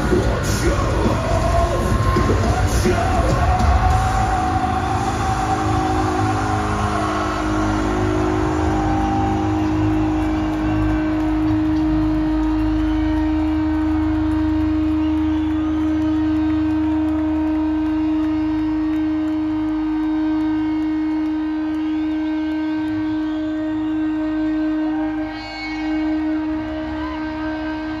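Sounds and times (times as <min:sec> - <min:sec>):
rock band droning note: 0:00.0 - 0:28.0.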